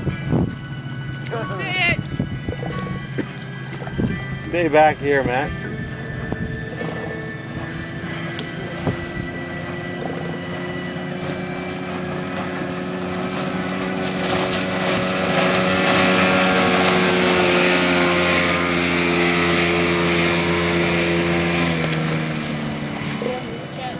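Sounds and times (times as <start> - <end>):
outboard motor running hard: 0.0 - 23.9.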